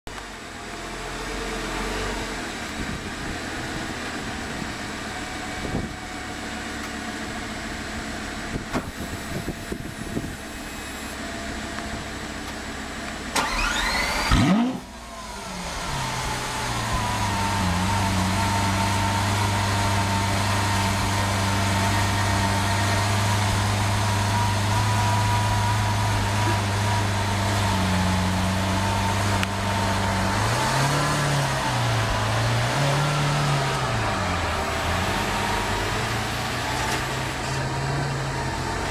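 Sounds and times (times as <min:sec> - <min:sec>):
car engine starting and idling: 0:00.1 - 0:38.9.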